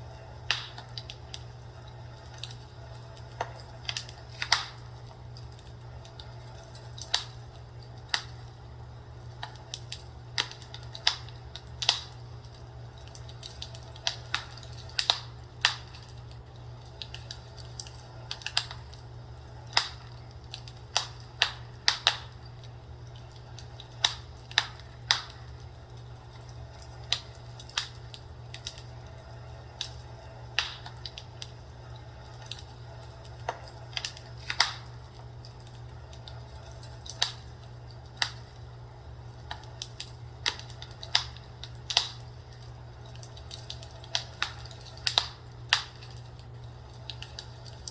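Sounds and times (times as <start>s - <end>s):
steady low hum: 0.0s - 47.9s
wood fire crackling: 0.0s - 47.9s.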